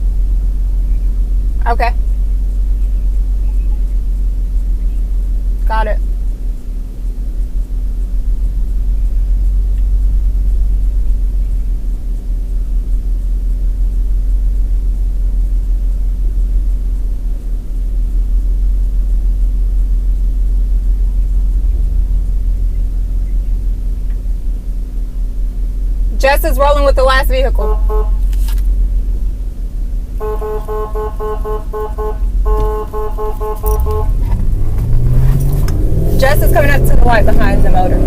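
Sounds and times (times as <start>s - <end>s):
vehicle rumbling: 0.0s - 38.0s.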